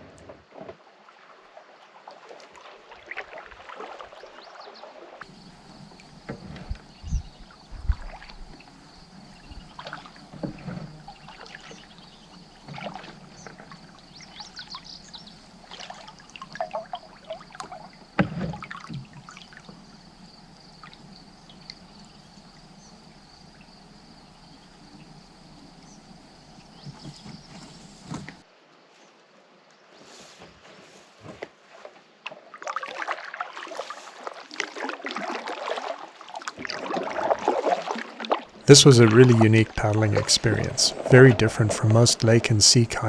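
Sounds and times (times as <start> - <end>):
paddle splashing in water: 0.0 - 28.4, 30.1 - 43.0.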